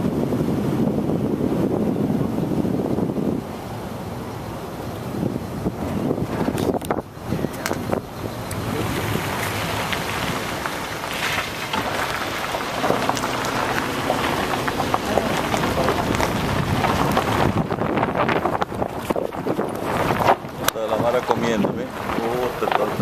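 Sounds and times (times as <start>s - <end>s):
vehicle driving on gravel: 0.0s - 23.0s
wind buffeting microphone: 0.0s - 23.0s.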